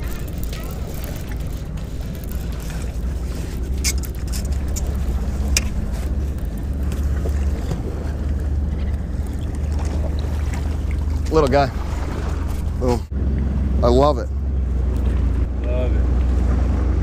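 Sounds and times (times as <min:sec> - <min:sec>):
water lapping at seawall: 0:00.0 - 0:17.0.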